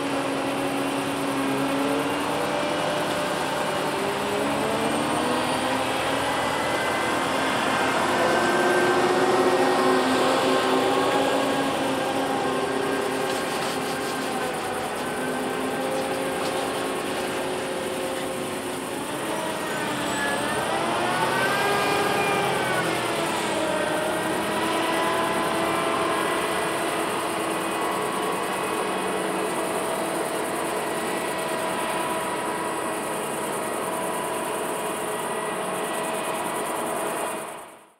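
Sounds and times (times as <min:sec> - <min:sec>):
combine harvester diesel engine: 0:00.0 - 0:37.9.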